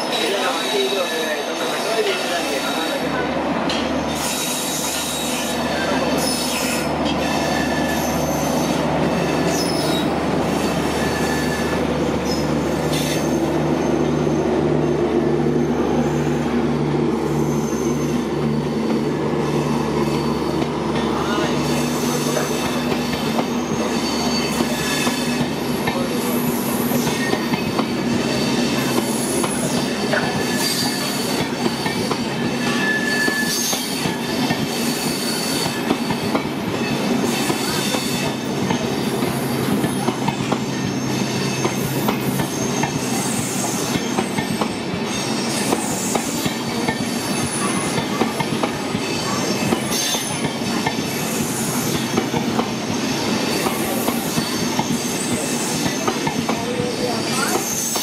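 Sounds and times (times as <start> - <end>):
train clatter: 0.0 - 13.4, 20.1 - 58.0
train rolling rumble: 0.0 - 58.0
train wheels screeching on rails: 0.0 - 58.0.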